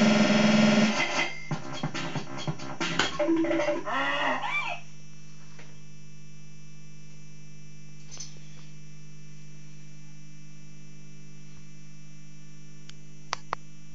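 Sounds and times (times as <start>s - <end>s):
electrical mains hum: 0.0s - 13.9s.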